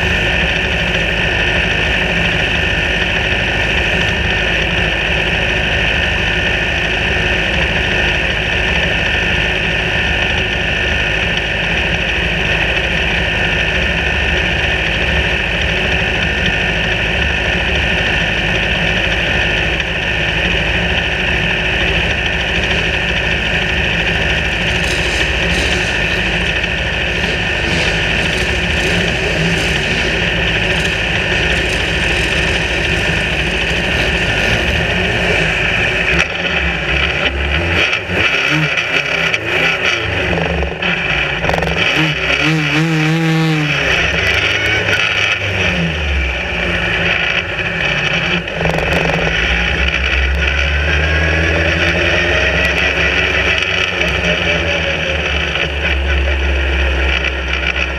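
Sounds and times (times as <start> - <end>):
racing car engines idling: 0.0 - 57.9.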